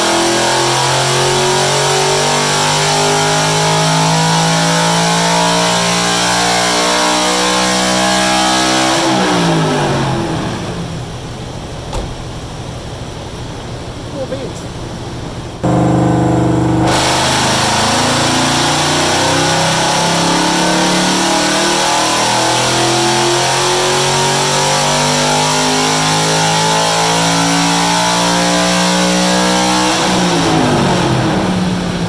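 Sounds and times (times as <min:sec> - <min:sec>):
car engine revving at full throttle: 0:00.0 - 0:12.0, 0:15.5 - 0:32.0.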